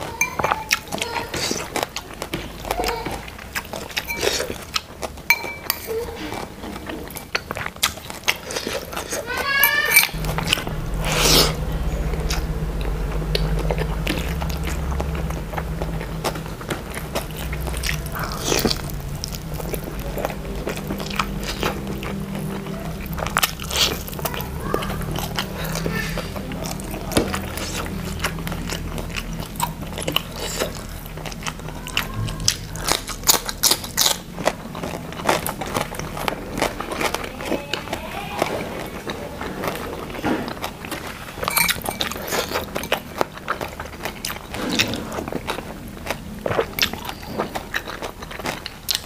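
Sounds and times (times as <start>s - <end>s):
chewing and lip smacks: 0.0s - 9.4s, 11.6s - 49.0s
low steady hum: 0.0s - 49.0s.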